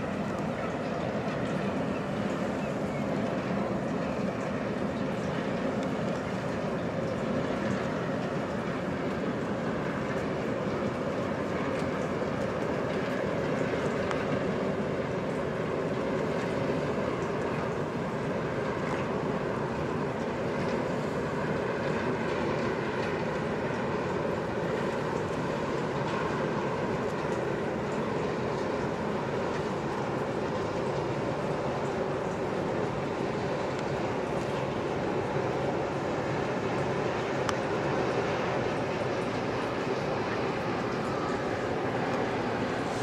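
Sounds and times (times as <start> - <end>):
ship engines droning: 0.0 - 43.0.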